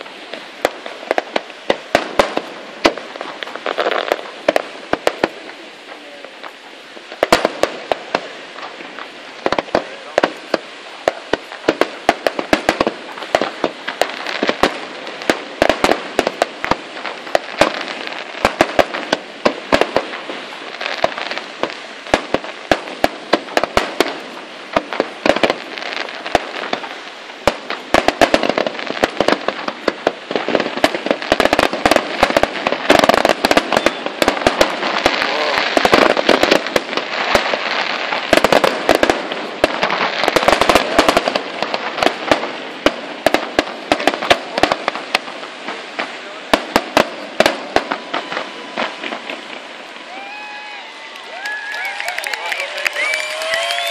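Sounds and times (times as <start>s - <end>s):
fireworks bursting with bangs: 0.0s - 53.9s
fireworks crackling: 0.0s - 53.9s.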